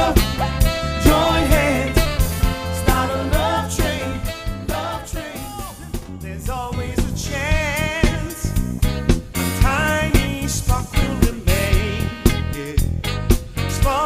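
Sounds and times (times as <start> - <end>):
soul band music: 0.0 - 14.0.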